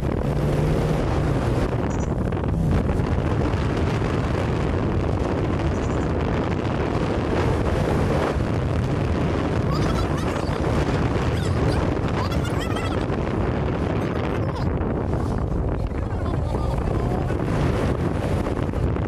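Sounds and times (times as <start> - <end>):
vehicle engine and road noise: 0.0 - 19.0
wind buffeting microphone: 0.0 - 19.0.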